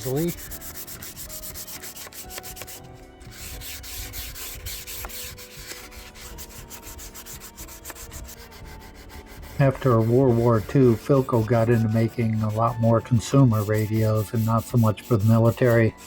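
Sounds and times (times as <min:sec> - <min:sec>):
hand sanding wood: 0:00.0 - 0:16.0.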